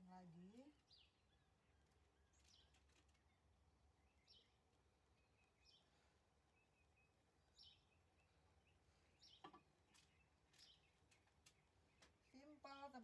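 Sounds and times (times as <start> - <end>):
faint bird chirps: 0.4 - 13.0.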